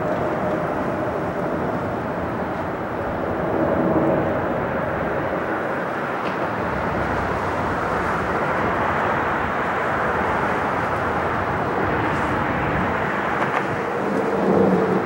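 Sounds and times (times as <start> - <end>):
distant jet engines running: 0.0 - 15.0
wind noise: 0.0 - 15.0.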